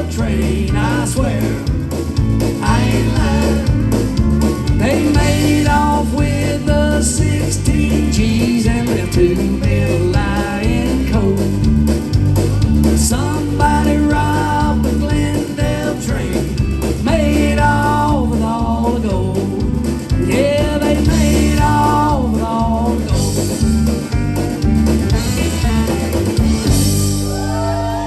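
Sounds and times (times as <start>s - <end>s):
country-rock band playing: 0.0s - 28.0s
lead guitar with bent notes: 0.0s - 28.0s.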